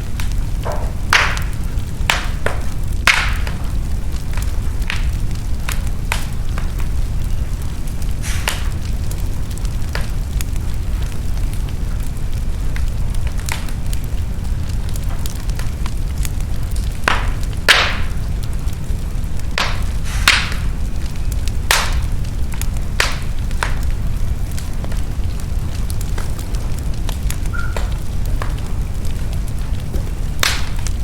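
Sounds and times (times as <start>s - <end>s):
burning logs crackling and popping: 0.0s - 31.0s
fire roaring: 0.0s - 31.0s.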